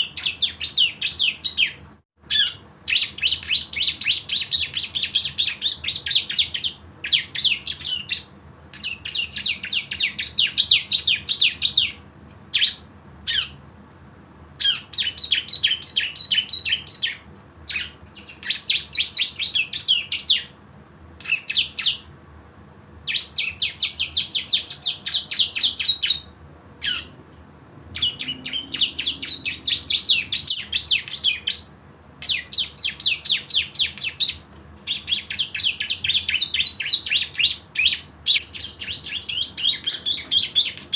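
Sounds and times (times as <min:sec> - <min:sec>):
bird rapid high chirps: 0:00.0 - 0:13.6, 0:14.6 - 0:20.6, 0:21.2 - 0:22.1, 0:23.0 - 0:40.9.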